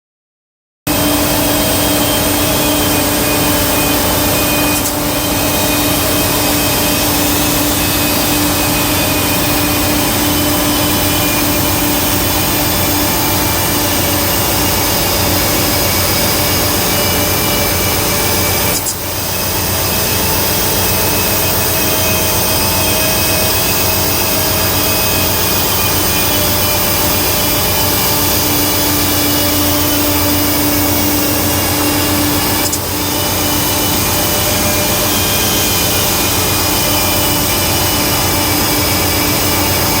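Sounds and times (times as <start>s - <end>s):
grinding machine motor whine: 0.9s - 40.0s.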